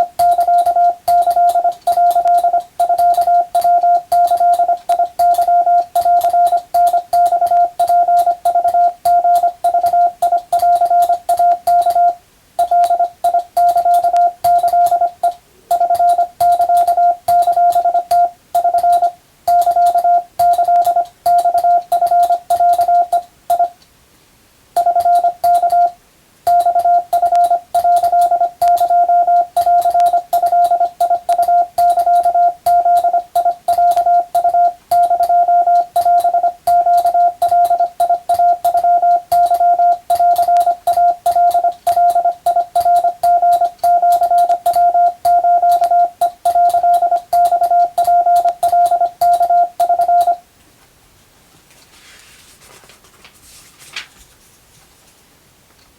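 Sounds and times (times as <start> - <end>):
morse code beeps: 0.0 - 23.8, 24.8 - 50.4.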